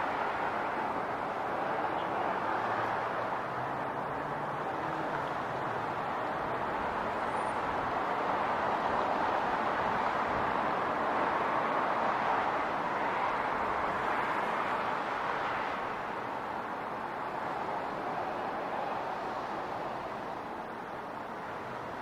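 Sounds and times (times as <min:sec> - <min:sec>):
passing road traffic: 0:00.0 - 0:22.0.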